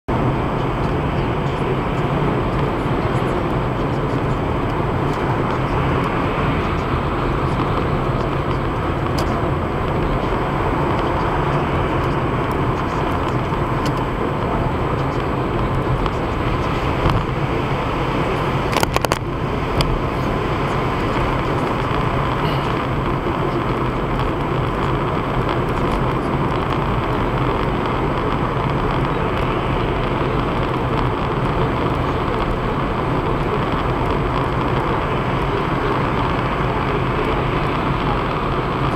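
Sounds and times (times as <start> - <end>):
car engine hum: 0.1 - 38.9
tyre and road noise: 0.1 - 38.9.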